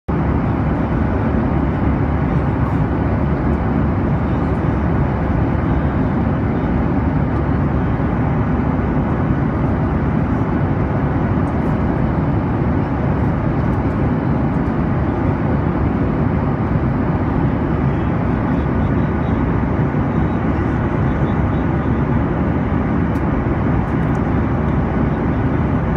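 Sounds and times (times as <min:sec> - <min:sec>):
airplane cabin noise: 0:00.1 - 0:25.9.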